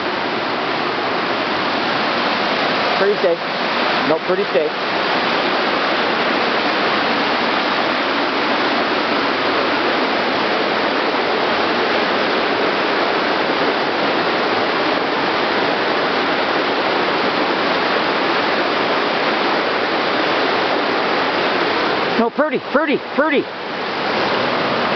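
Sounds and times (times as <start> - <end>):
river rushing over rapids: 0.0 - 24.9.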